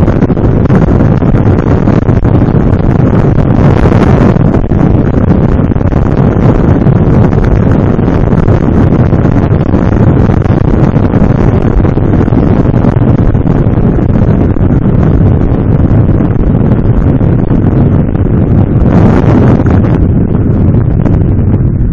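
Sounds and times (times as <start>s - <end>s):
road noise: 0.0s - 21.9s
wind buffeting microphone: 0.0s - 21.9s.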